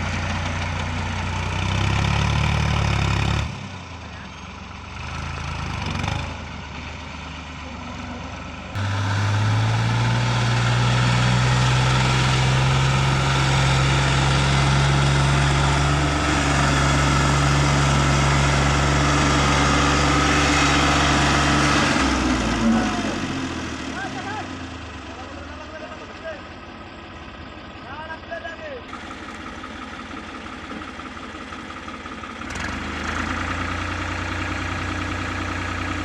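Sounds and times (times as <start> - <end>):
heavy diesel engine revving: 0.0 - 26.4, 28.9 - 36.0.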